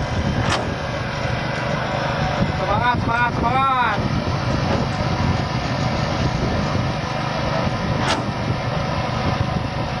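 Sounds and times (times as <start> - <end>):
machine engine running: 0.0 - 10.0.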